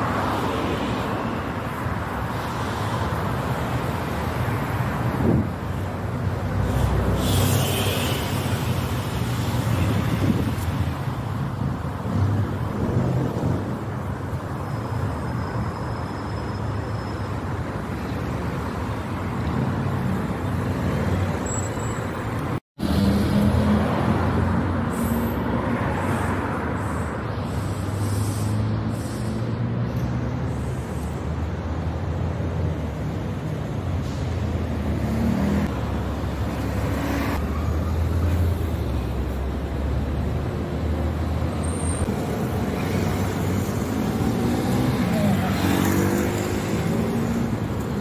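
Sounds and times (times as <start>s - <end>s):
traffic road rumble: 0.0s - 48.0s.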